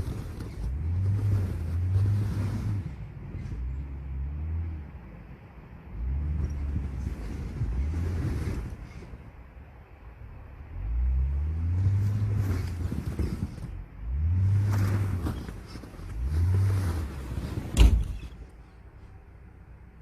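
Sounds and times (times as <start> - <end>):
truck engine revving: 0.0 - 9.0, 10.6 - 18.3.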